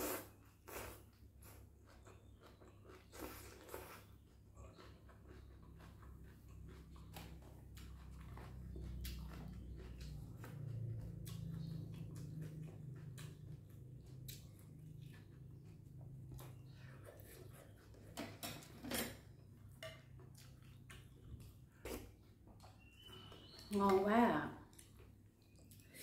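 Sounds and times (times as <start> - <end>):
chewing and mouth sounds: 0.0 - 18.4, 19.3 - 23.8, 24.6 - 26.0.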